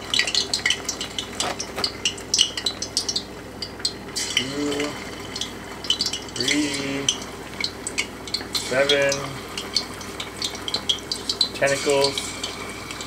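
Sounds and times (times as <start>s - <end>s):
oil sizzling and popping: 0.0s - 13.0s.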